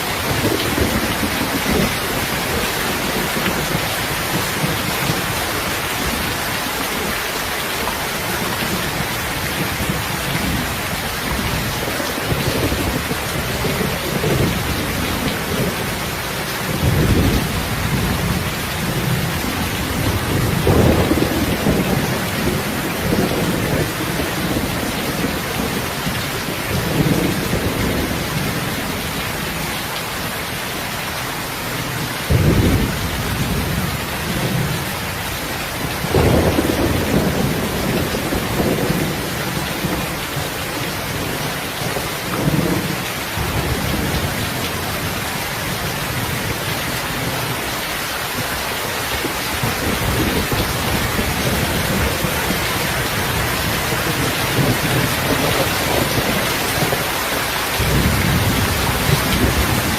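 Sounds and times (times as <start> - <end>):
thunder rumbling: 0.0 - 29.6, 31.8 - 47.7, 49.1 - 59.9.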